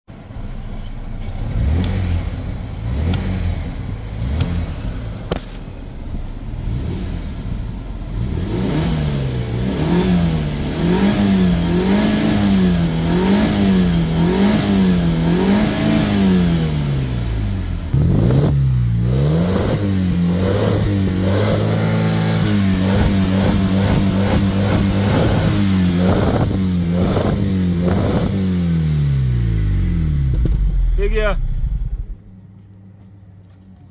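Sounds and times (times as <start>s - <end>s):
car engine revving: 0.3s - 33.9s.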